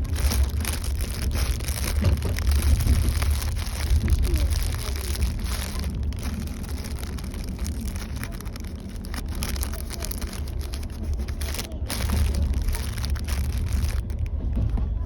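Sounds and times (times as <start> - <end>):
objects crackling and clicking: 0.0 - 15.0
train rumbling: 0.0 - 15.0.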